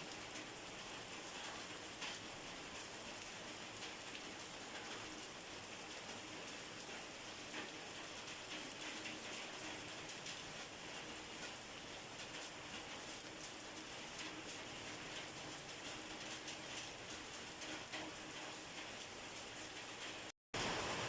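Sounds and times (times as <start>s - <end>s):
raindrops pattering: 0.0s - 21.0s
steady rain: 0.0s - 21.0s.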